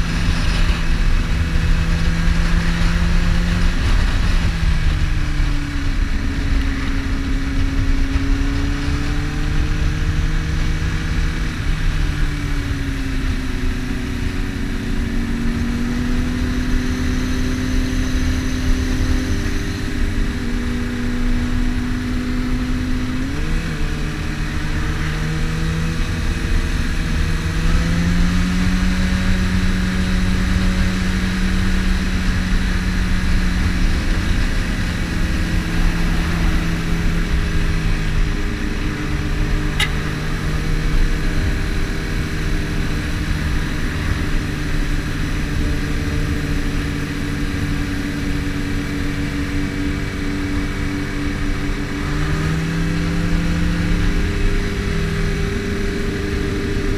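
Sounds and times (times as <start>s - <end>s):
motorcycle engine cruising: 0.0s - 56.9s
wind rumble on microphone: 0.0s - 56.9s.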